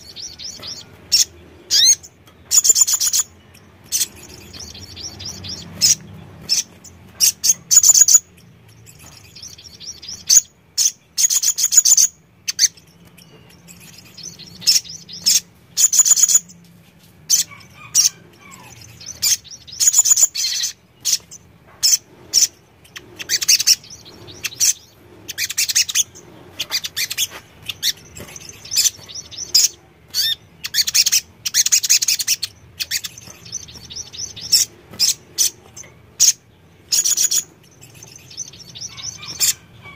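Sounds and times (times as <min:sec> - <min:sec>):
bird trilling and chipping: 0:00.0 - 0:16.6, 0:17.2 - 0:39.9.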